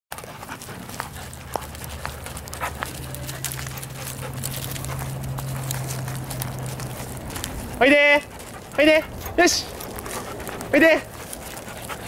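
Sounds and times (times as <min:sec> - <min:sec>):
dogs moving on wood chips: 0:00.1 - 0:12.0.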